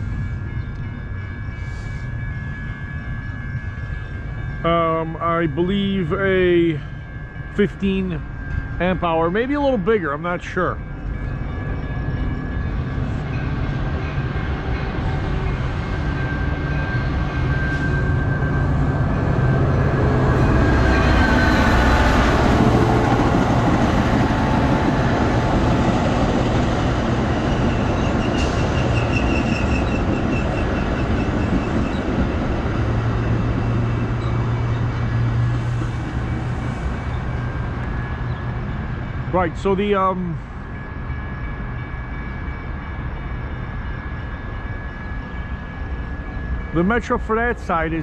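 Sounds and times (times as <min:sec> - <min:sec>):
train rumbling past: 0:00.0 - 0:48.0.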